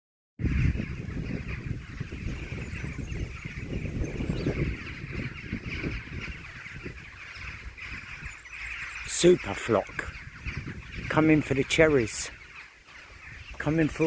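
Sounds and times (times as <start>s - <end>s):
gusty low rumble: 0.4s - 8.9s, 9.8s - 12.6s
rooks cawing: 0.6s - 14.0s.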